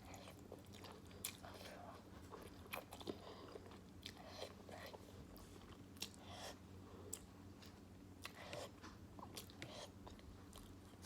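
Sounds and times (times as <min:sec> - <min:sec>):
faint low hum: 0:00.0 - 0:11.0
person chewing noodles: 0:00.0 - 0:11.0.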